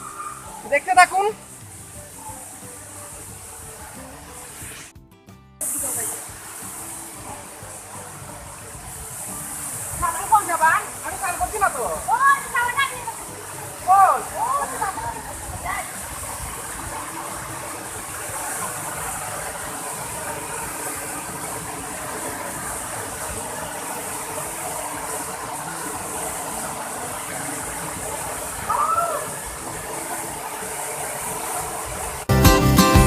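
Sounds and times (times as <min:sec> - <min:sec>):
waterfall rushing: 0:00.0 - 0:04.9, 0:05.6 - 0:33.0.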